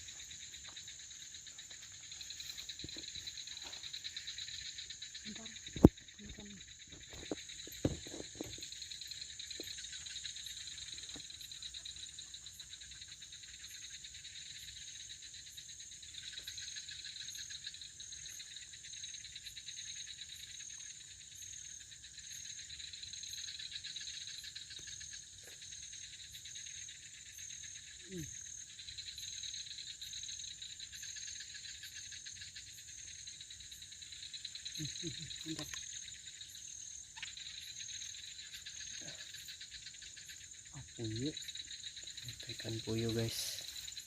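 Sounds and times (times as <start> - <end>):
crickets and insects chirping: 0.0 - 44.0.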